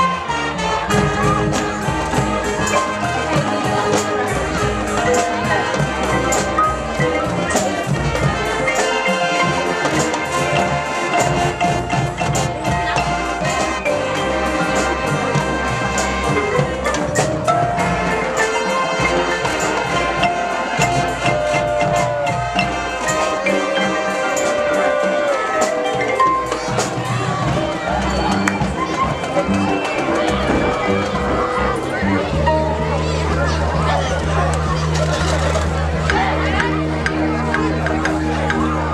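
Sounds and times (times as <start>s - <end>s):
marching percussion strikes: 0.0s - 36.4s
brass sustained notes: 0.0s - 38.9s.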